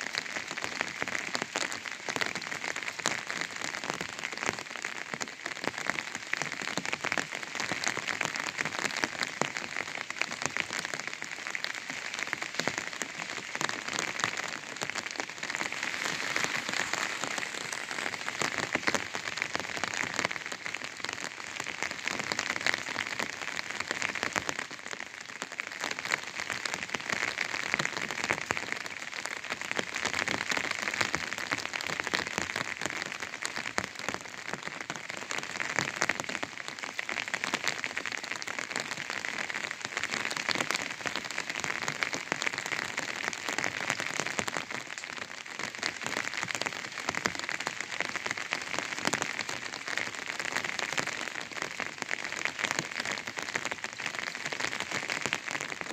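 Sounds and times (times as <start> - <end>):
rain pattering on an umbrella: 0.0 - 55.9.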